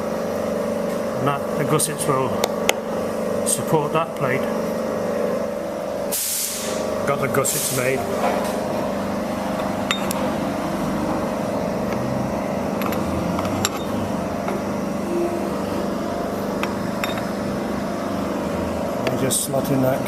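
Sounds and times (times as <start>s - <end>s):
workshop machine hum: 0.0s - 20.0s.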